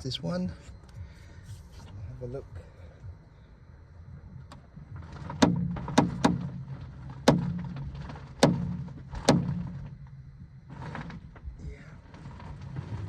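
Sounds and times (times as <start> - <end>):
car engine idling hum: 0.0 - 13.0.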